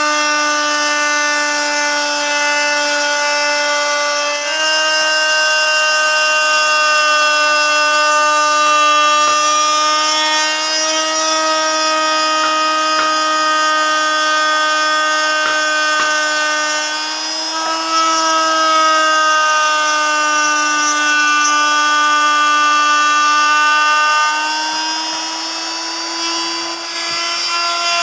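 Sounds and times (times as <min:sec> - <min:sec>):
router cutting wood: 0:00.0 - 0:28.0.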